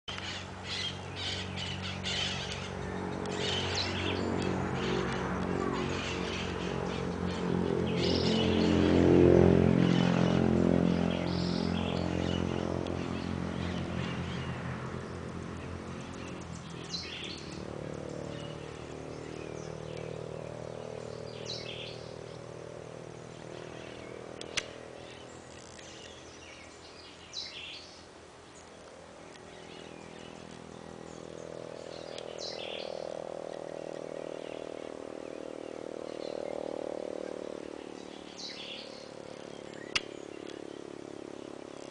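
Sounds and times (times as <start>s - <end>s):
birds chirping: 0.1s - 41.9s
low drone: 0.1s - 41.9s.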